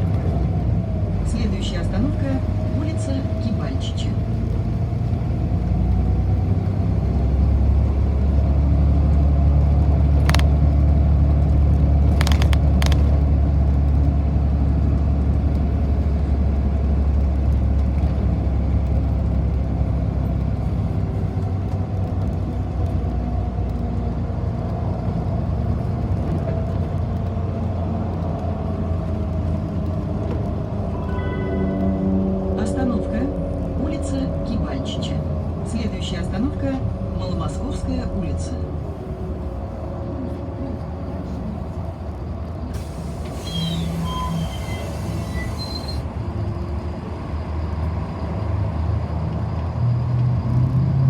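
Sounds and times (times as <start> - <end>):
bus rumbling on the road: 0.0 - 51.0.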